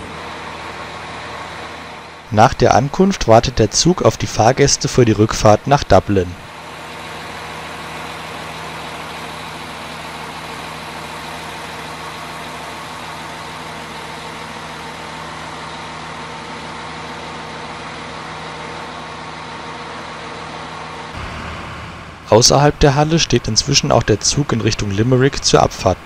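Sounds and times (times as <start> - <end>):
diesel engines idling: 0.0 - 26.0.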